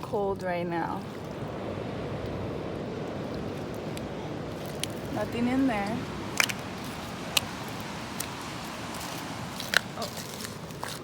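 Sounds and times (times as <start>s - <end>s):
steady rushing shore noise: 0.0s - 11.0s.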